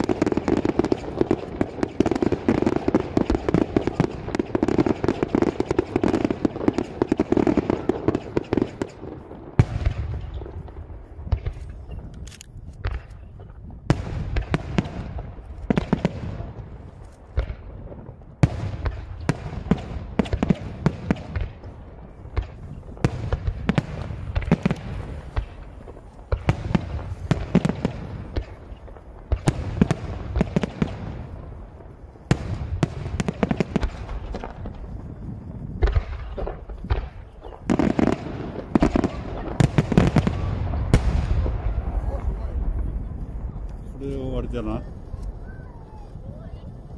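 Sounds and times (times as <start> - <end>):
fireworks banging and booming: 0.0 - 46.9.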